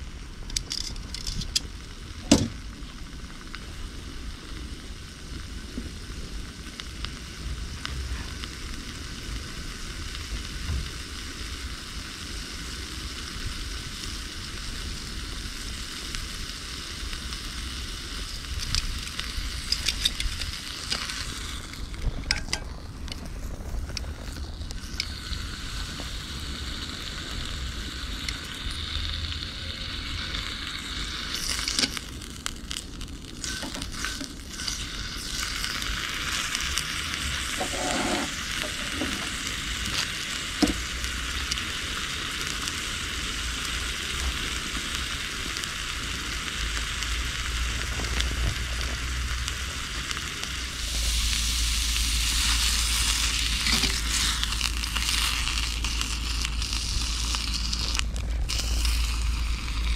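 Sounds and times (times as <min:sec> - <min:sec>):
steak sizzling in a skillet: 0:00.0 - 0:59.9.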